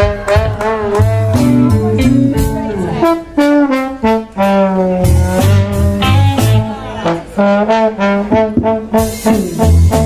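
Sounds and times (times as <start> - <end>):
drums: 0.0 - 6.8, 8.2 - 10.0
electric bass: 0.0 - 10.0
trombone playing: 0.0 - 10.0.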